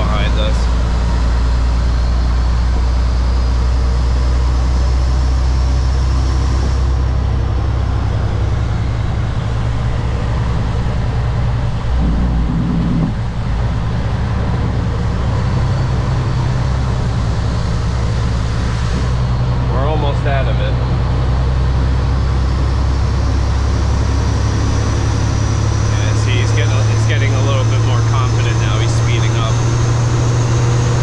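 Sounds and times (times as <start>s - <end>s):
road noise: 0.0s - 31.0s
truck diesel engine running: 0.0s - 31.0s.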